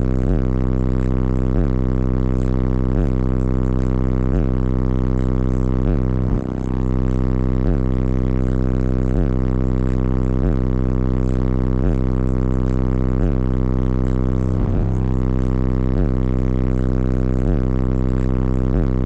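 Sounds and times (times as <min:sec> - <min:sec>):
bass-heavy music through subwoofers: 0:00.0 - 0:19.0.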